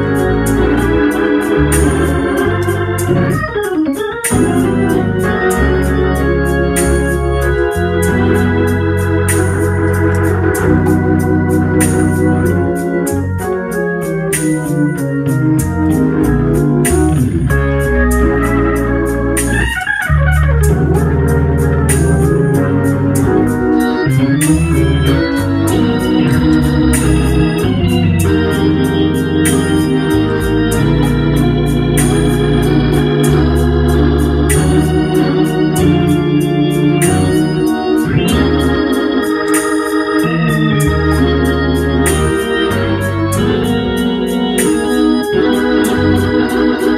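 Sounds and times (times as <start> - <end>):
deep bass line: 0.0 - 46.9
organ playing sustained chords: 0.0 - 46.9.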